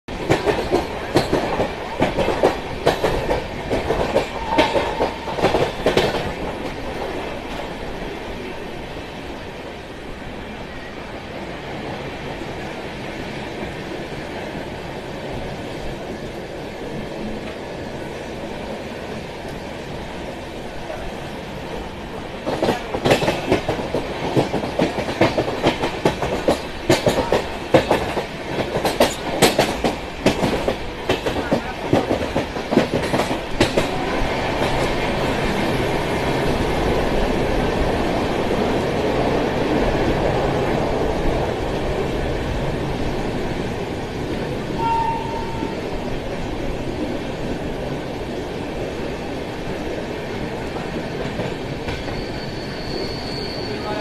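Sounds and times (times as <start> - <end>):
train wheels rumbling on rails: 0.1 - 54.0.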